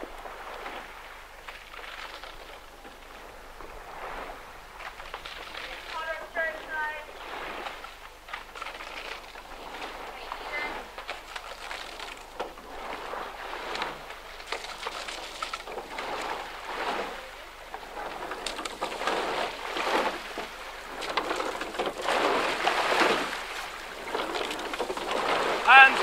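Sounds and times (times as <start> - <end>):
oars splashing in water: 0.0 - 26.0.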